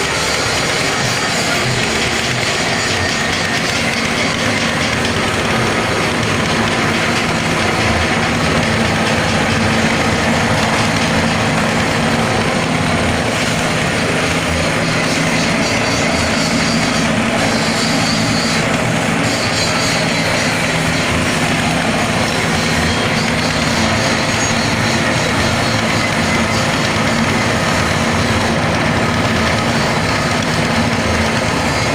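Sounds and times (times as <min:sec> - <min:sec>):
crusher machine whirring: 0:00.0 - 0:31.9.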